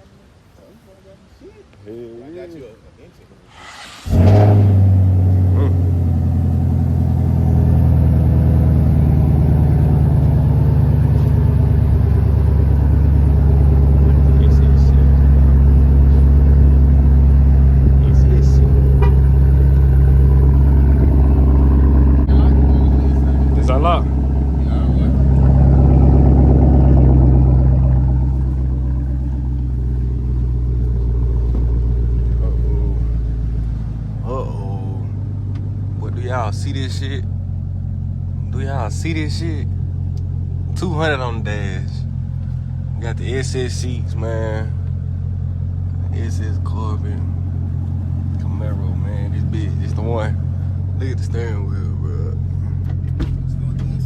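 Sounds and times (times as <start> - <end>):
car engine idling: 3.5 - 54.0.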